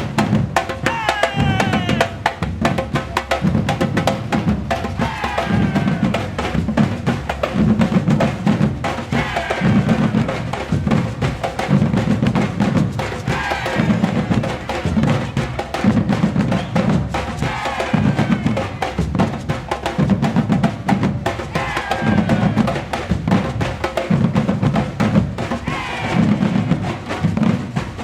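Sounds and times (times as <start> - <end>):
drum ensemble playing: 0.0 - 28.0.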